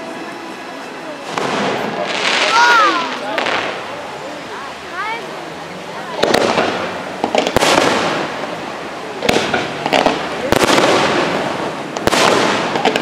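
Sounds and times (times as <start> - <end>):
fireworks bursting with sharp bangs: 0.0 - 13.0
fireworks crackling: 0.0 - 13.0.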